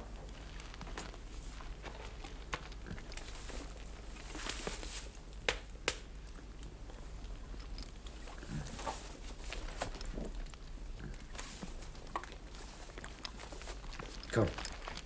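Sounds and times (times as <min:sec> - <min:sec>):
soft rustling: 0:00.0 - 0:05.3, 0:07.0 - 0:15.0
steady low hum: 0:00.0 - 0:15.0.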